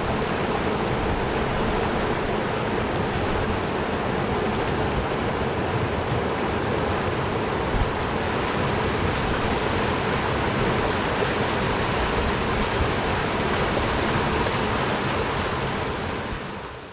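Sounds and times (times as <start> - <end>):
river rushing over rocks: 0.0 - 16.9.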